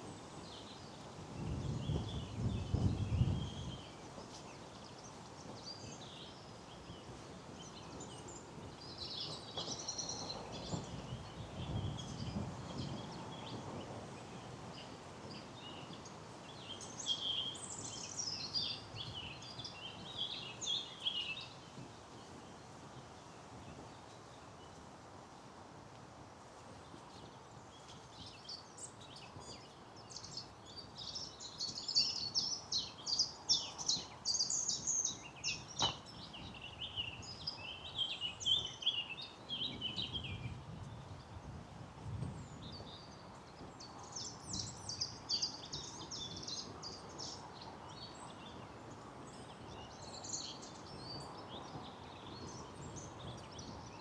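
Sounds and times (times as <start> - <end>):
songbirds singing and chirping: 0.0 - 24.8, 26.8 - 54.0
faint outdoor hiss: 0.0 - 54.0.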